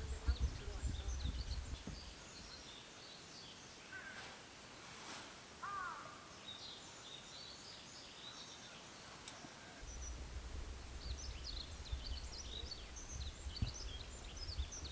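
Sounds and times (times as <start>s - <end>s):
small birds chirping: 0.0s - 4.3s, 5.6s - 14.9s.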